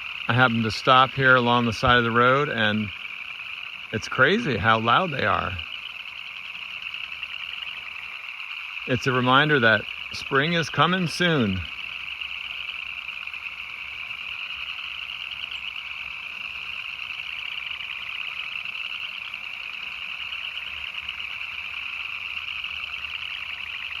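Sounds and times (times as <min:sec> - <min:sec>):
chorus of frogs peeping: 0:00.0 - 0:24.0.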